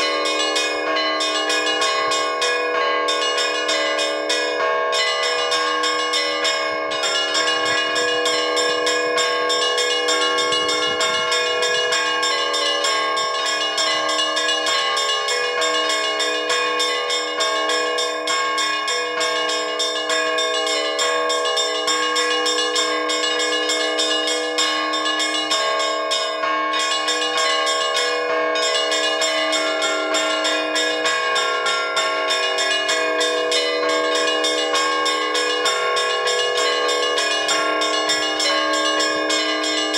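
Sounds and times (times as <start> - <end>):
large bells ringing: 0.0 - 39.9
small bells striking rapidly: 0.0 - 39.9.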